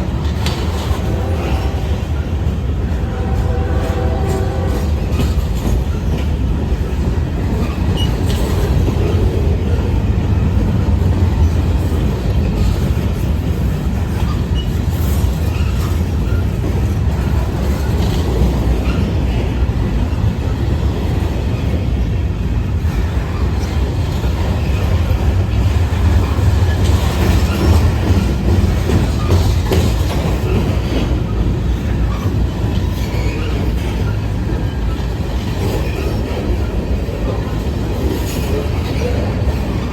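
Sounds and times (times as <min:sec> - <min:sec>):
train rumbling on rails: 0:00.0 - 0:39.9
train wheels clickety-clack: 0:00.0 - 0:39.9.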